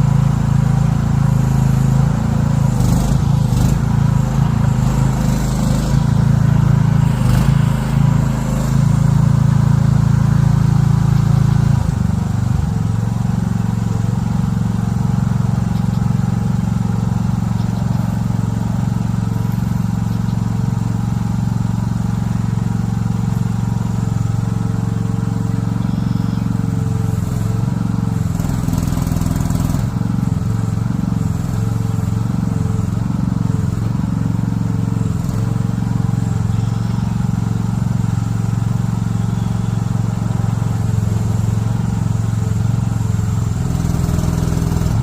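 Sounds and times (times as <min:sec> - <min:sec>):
mini excavator engine running: 0:00.0 - 0:45.0.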